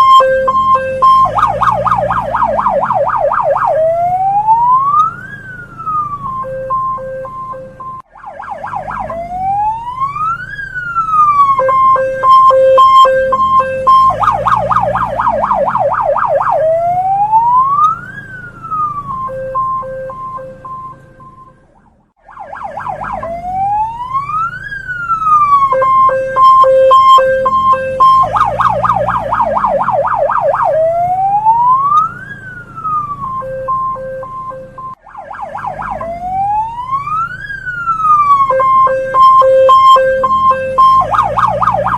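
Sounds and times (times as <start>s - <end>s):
police car siren: 0.0s - 41.9s.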